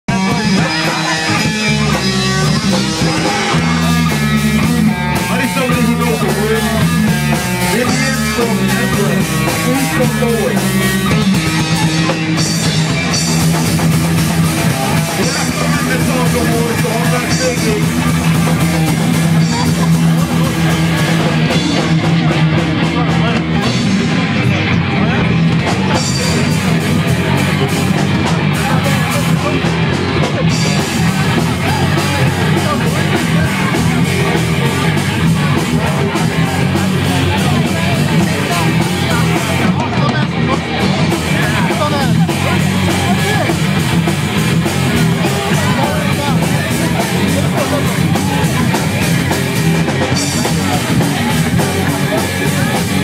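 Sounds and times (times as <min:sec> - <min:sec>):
bass guitar: 0:00.0 - 0:53.0
distorted electric guitar riffing: 0:00.0 - 0:53.0
drums: 0:00.0 - 0:53.0.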